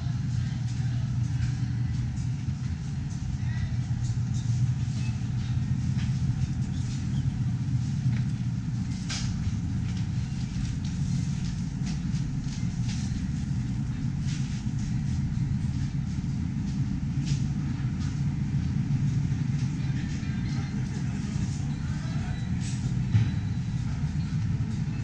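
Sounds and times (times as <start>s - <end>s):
grocery store background rumble: 0.0s - 25.0s.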